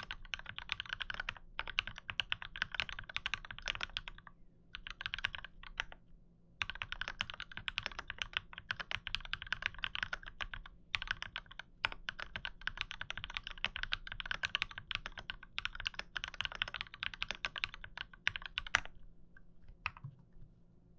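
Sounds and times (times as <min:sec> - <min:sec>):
rapid mechanical keyboard typing: 0:00.0 - 0:06.0, 0:06.6 - 0:18.9.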